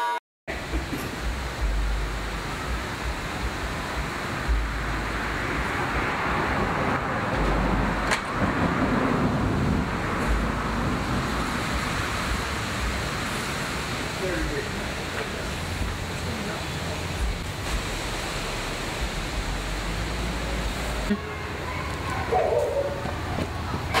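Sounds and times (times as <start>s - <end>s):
street traffic noise: 0.5s - 24.0s
low rumbles: 0.6s - 24.0s.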